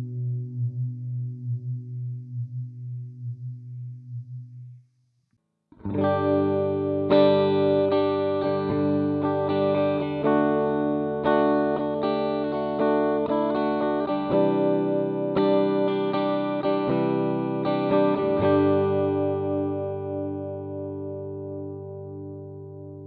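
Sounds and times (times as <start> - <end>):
electric guitar chords: 0.0 - 3.8, 5.8 - 23.0.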